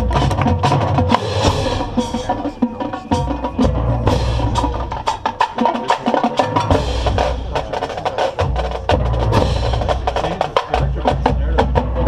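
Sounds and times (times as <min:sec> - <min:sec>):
marching band playing: 0:00.0 - 0:12.0
sharp drum strikes: 0:00.0 - 0:12.0.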